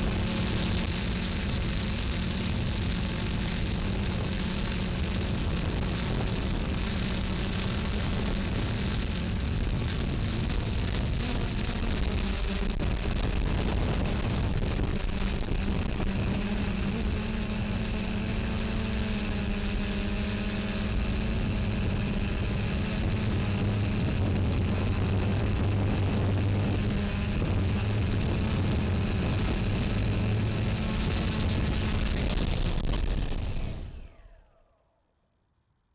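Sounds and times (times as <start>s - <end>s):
wind rushing over microphone: 0.0s - 34.5s
drone propellers humming: 0.0s - 34.8s
low hum: 0.0s - 35.8s.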